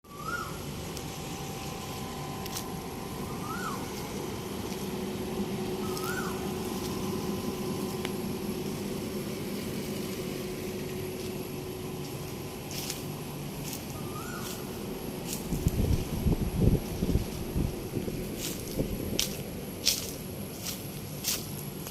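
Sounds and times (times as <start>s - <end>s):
air conditioner units humming: 0.0s - 21.9s.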